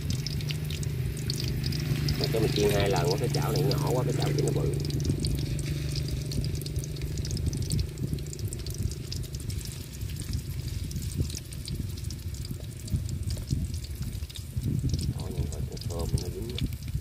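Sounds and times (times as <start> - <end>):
food sizzling in oil: 0.0 - 15.2
low rumble: 0.0 - 17.0.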